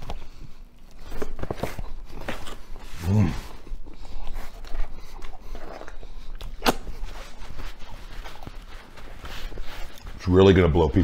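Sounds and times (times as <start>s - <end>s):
man chewing food: 0.0s - 10.2s.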